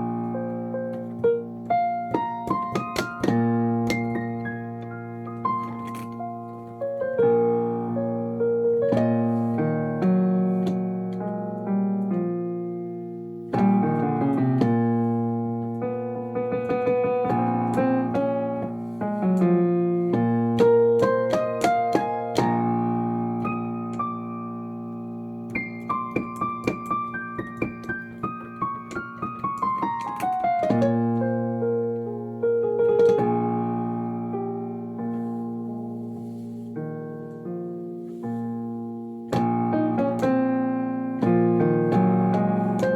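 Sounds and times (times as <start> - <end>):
keyboard playing chords: 0.0 - 36.2, 36.8 - 42.9.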